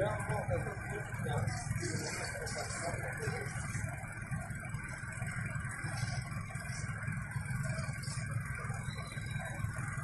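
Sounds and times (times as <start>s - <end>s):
motor vehicle running: 0.0s - 10.0s.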